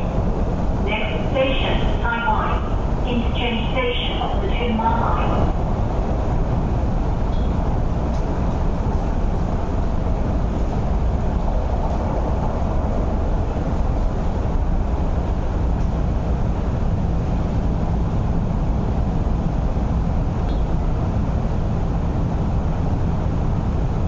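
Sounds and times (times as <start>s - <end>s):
train cabin rumble: 0.0s - 24.0s.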